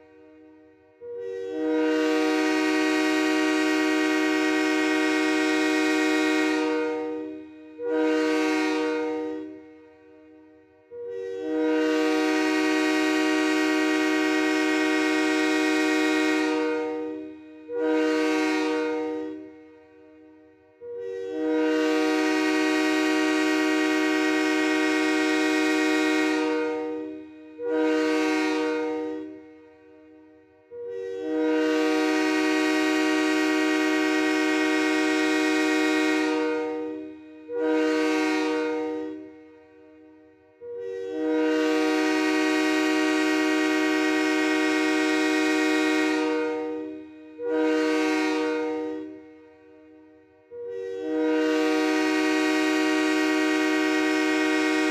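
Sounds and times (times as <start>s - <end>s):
train horn blast: 0.0s - 54.9s.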